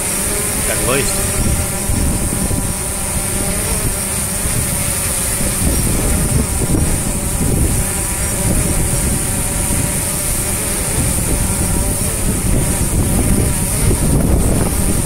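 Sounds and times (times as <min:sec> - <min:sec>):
quadcopter propellers humming: 0:00.0 - 0:15.0
wind rumbling on microphone: 0:00.0 - 0:15.0.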